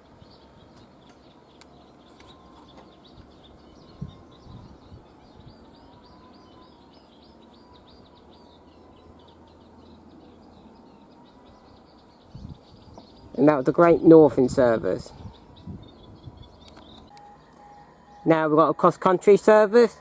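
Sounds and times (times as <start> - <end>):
birds chirping and singing: 0.0 - 20.0
faint wavering whine: 1.5 - 13.4, 15.1 - 20.0.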